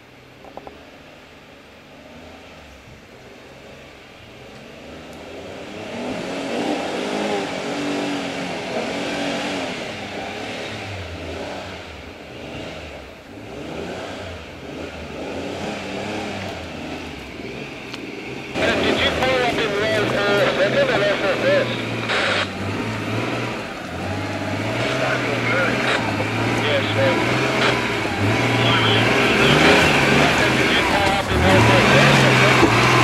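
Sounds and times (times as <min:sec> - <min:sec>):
engine revving: 0:01.9 - 0:33.0.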